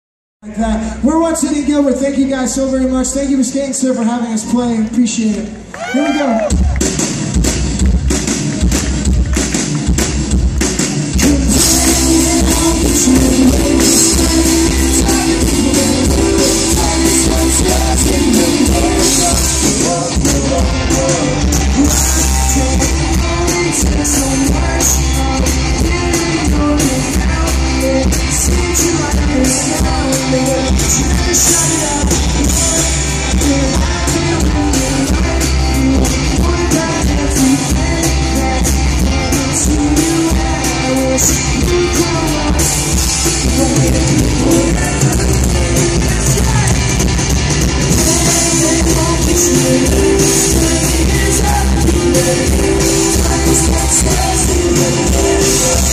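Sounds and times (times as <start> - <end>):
live rock band playing: 5.1 - 55.9
lead vocal singing: 11.1 - 55.9.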